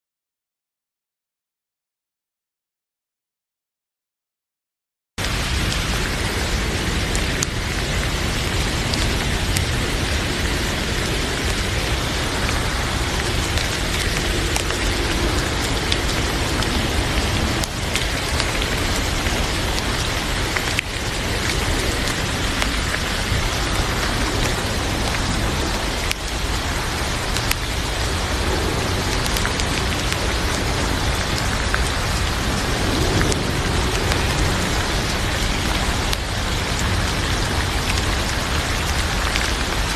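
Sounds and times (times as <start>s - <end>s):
heavy rain falling: 5.2s - 39.9s.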